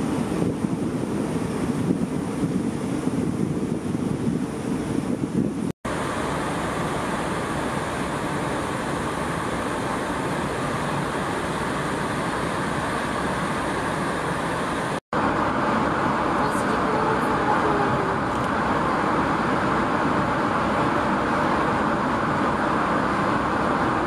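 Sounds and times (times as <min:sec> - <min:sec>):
churning wake: 0:00.0 - 0:24.0
gusty wind: 0:00.0 - 0:24.0
ship running noise: 0:00.0 - 0:24.0
water wash: 0:00.0 - 0:24.0.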